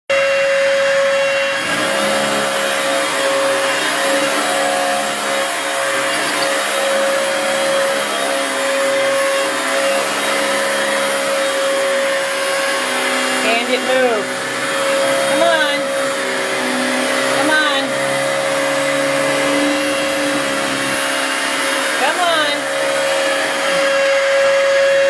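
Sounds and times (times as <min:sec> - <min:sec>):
vacuum cleaner running: 0:00.1 - 0:25.0.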